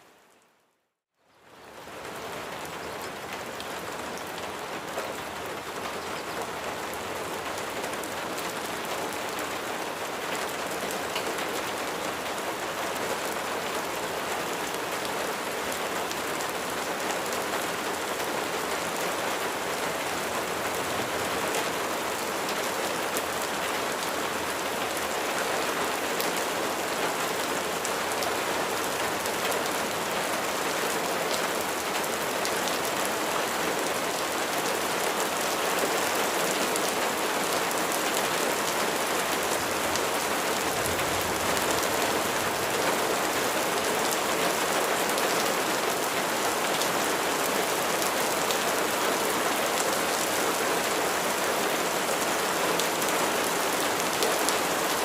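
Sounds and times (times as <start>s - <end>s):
steady rain hiss: 1.2s - 55.0s.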